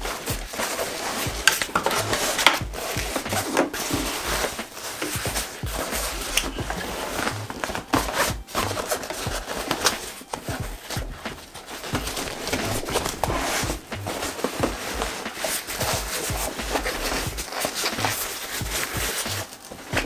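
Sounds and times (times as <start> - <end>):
stiff fabric rustling and crinkling: 0.0 - 20.0.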